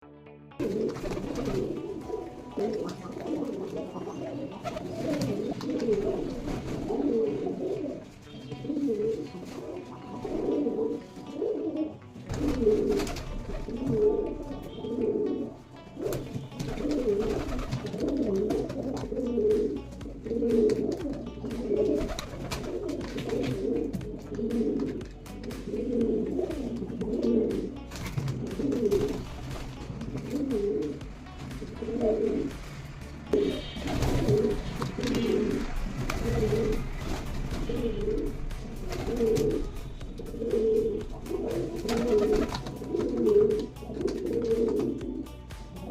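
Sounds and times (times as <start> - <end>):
pigeons cooing: 0.6 - 45.9.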